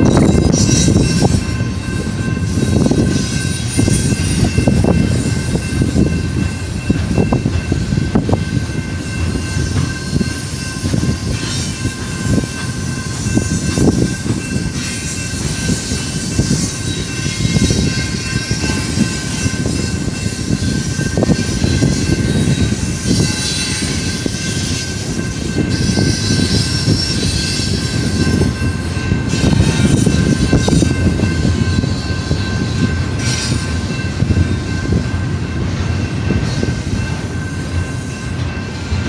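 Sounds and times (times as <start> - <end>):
freight cars rumbling on rails: 0.0 - 39.0.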